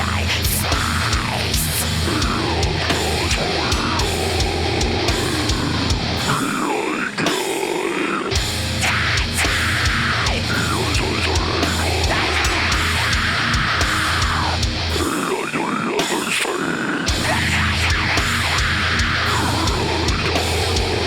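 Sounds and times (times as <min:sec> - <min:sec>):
heavy metal music: 0:00.0 - 0:21.0
screamed vocals: 0:00.0 - 0:21.0.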